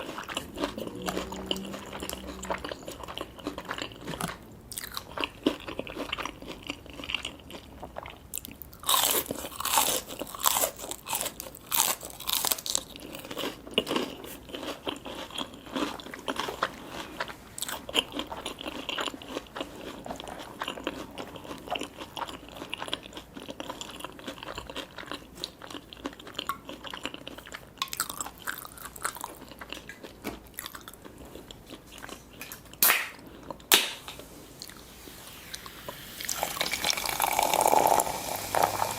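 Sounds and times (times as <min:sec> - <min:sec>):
person chewing crunchy food: 0:00.0 - 0:33.7, 0:34.6 - 0:38.9.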